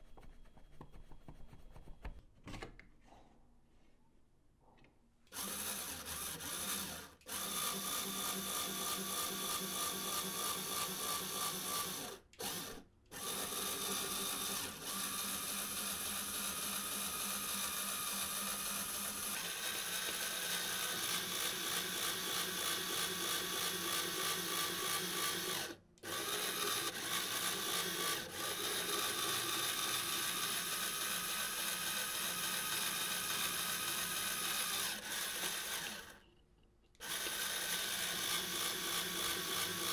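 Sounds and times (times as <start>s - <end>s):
electric motor whirring through gears: 5.4s - 36.2s, 37.0s - 39.9s.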